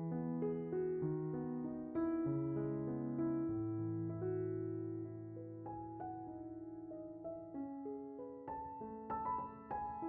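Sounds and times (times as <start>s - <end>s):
slow electric piano music: 0.0s - 10.0s.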